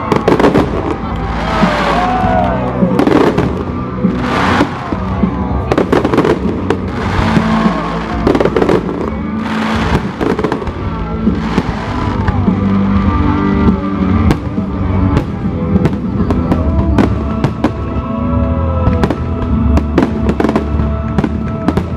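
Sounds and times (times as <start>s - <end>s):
fireworks bangs: 0.0s - 18.0s
fireworks crackling: 0.0s - 21.9s
loud music: 0.0s - 21.9s.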